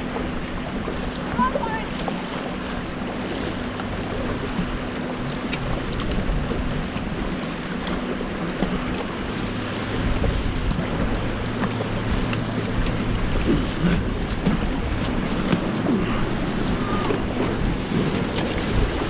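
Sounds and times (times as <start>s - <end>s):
paddle blades splashing: 0.0s - 19.0s
water sloshing against hull: 0.0s - 19.0s.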